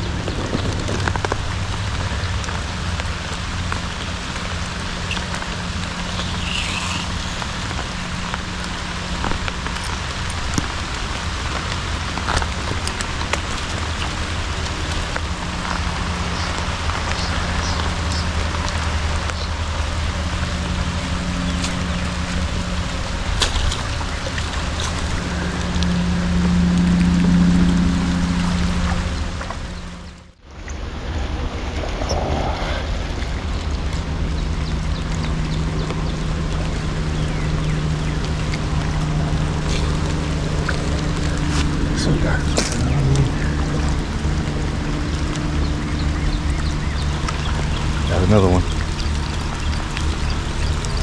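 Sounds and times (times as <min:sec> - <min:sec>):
low steady hum: 0:00.0 - 0:51.0
steady rain falling: 0:00.0 - 0:51.0.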